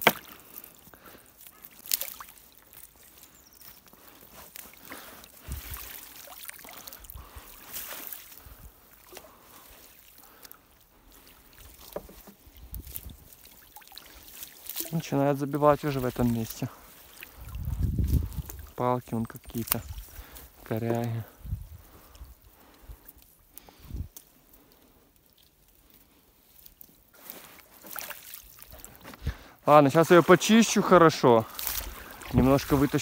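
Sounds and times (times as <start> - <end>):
water dripping and sloshing: 0.0 - 21.2, 21.8 - 29.4, 30.3 - 33.0.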